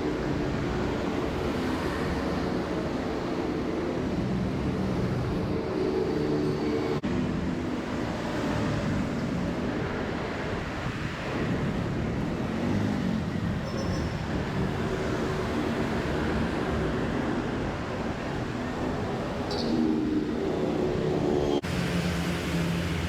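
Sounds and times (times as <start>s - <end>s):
vehicles passing on busy street: 0.0s - 23.0s.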